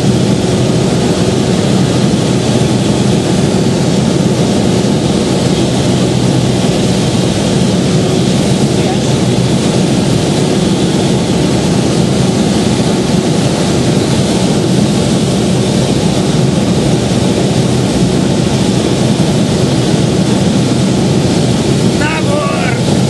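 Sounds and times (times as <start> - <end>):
aeroplane engine droning: 0.0 - 23.0.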